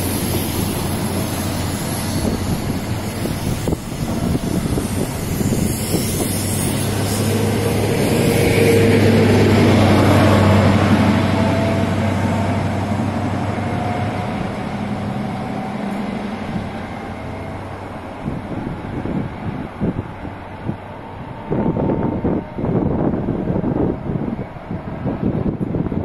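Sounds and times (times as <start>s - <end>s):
diesel engine hum: 0.0s - 26.0s
train wheel rumble: 0.0s - 26.0s.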